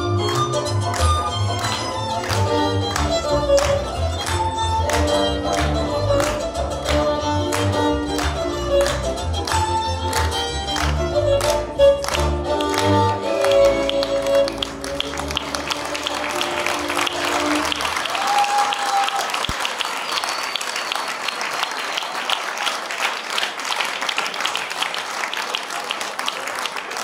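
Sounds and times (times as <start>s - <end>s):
audience clapping: 0.0s - 27.0s.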